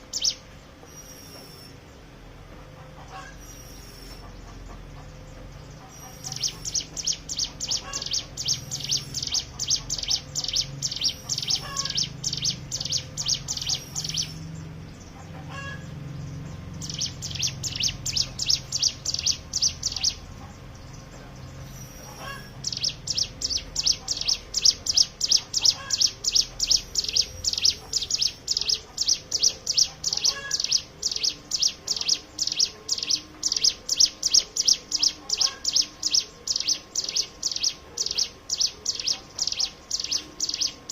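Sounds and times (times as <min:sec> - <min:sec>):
bird singing rapid high notes: 0:00.0 - 0:02.0, 0:05.4 - 0:40.9.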